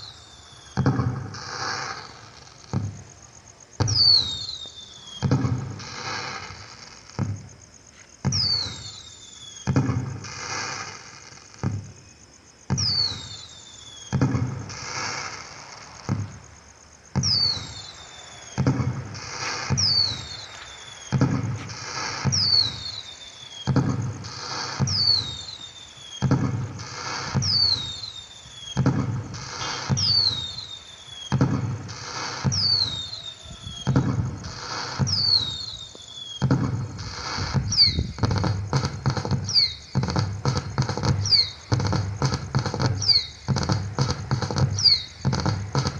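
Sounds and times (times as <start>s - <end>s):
falling firework whistle: 0.0s - 3.1s, 3.8s - 45.9s
firework bang and crackle: 0.0s - 45.9s.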